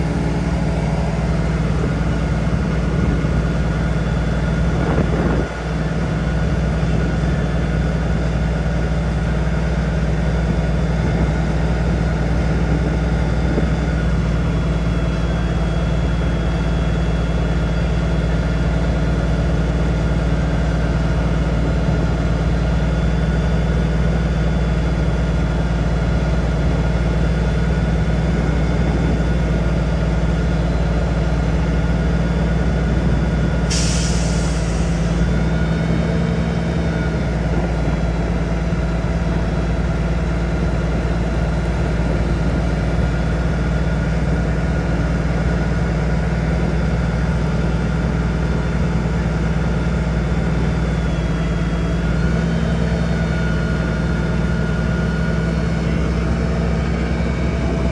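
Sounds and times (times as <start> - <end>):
truck diesel engine running: 0.0 - 57.9.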